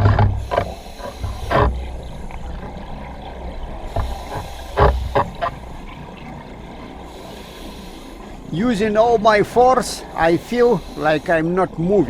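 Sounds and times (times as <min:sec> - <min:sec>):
low underwater rumble: 0:00.0 - 0:10.9
regulator exhaust bubbles: 0:00.0 - 0:12.0.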